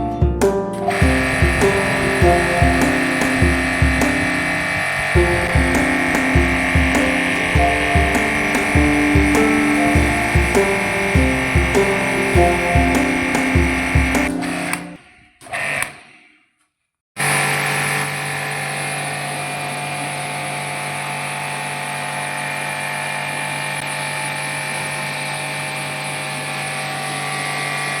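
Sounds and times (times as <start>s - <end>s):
mechanical running noise: 0.9s - 14.9s, 17.2s - 28.0s.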